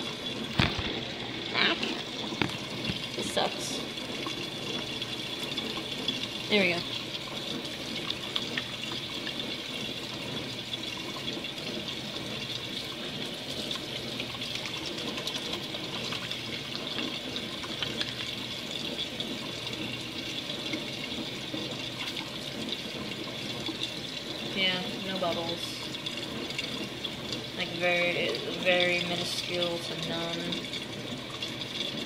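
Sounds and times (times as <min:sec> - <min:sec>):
faucet running into metal sink: 0:00.0 - 0:32.0.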